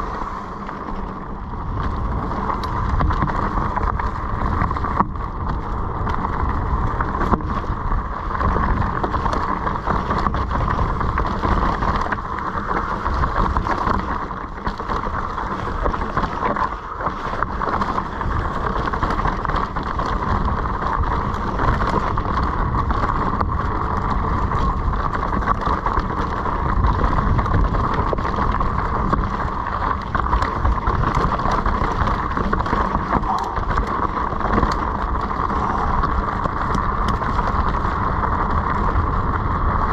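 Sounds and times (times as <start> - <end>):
bike wheels rattling over rocks: 0.0 - 39.9
wind: 0.0 - 39.9.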